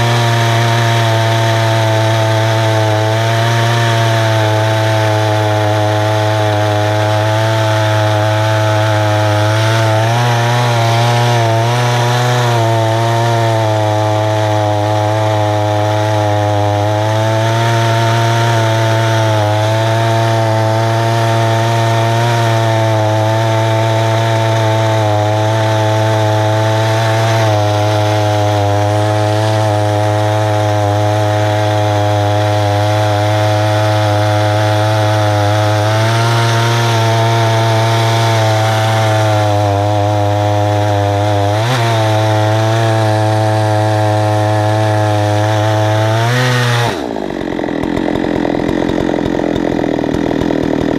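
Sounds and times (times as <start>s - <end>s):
chainsaw ripping through wood: 0.0s - 50.9s.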